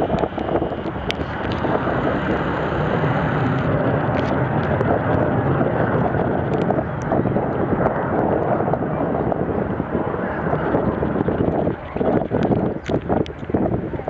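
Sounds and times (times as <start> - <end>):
jet bomber roaring past: 0.0 - 14.0
wind on microphone: 0.0 - 14.0.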